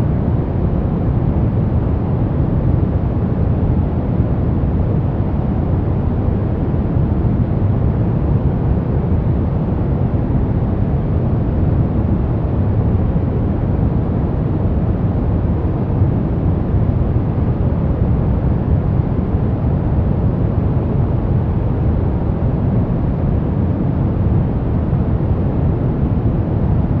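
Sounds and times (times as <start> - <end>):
deep rumbling white noise: 0.0 - 27.0.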